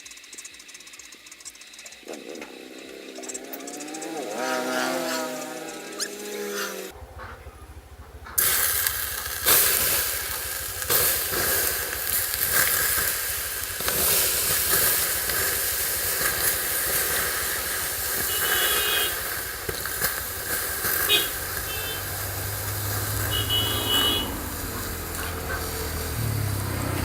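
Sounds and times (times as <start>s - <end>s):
fireworks hissing and crackling: 0.0s - 27.0s.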